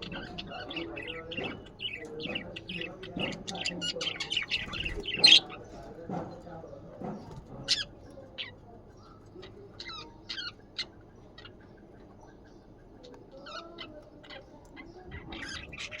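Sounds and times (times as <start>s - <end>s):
budgies chirping: 0.0s - 16.0s.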